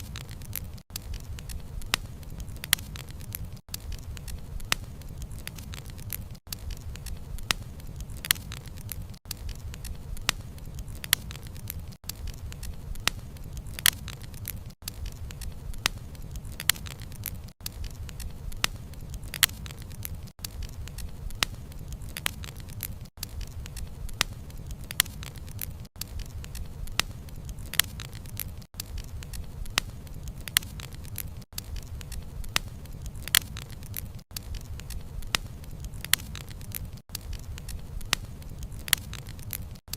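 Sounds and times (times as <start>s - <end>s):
burning logs popping: 0.0s - 39.9s
low rumble of flames: 0.0s - 39.9s
wood fire crackling: 0.0s - 39.9s.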